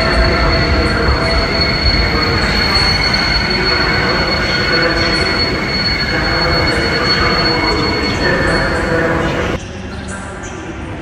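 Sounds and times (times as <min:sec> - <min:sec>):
train wheels squealing: 0:00.0 - 0:10.2
low train rumble: 0:00.0 - 0:11.0.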